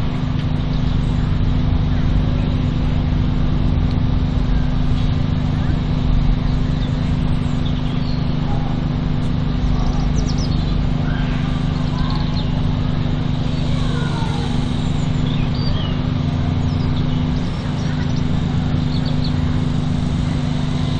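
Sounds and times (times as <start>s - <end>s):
small motor humming: 0.0s - 20.9s.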